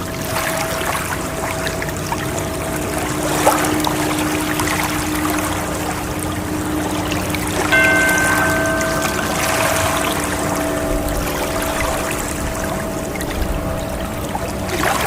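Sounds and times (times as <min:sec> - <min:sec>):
faint steady tone: 0:00.0 - 0:15.0
water rushing and splashing: 0:00.0 - 0:15.0.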